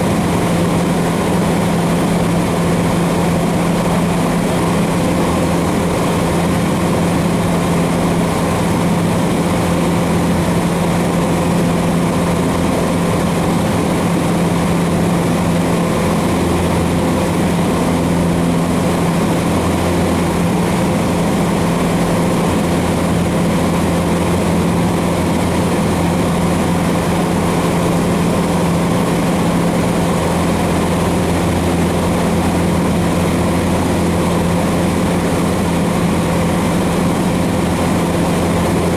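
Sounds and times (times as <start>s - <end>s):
airplane engine and propeller droning: 0.0s - 38.9s.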